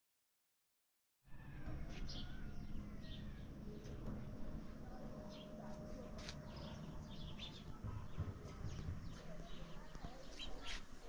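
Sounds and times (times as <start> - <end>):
small birds chirping: 1.4 - 11.0.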